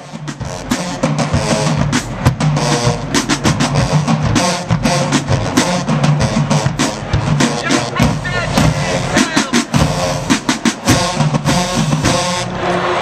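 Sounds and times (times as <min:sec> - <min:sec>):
busy drum beat: 0:00.0 - 0:12.5.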